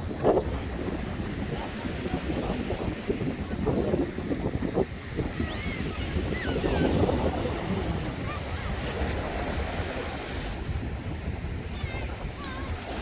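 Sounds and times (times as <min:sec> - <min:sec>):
surf rushing: 0:00.0 - 0:13.0
wind on microphone: 0:00.0 - 0:13.0.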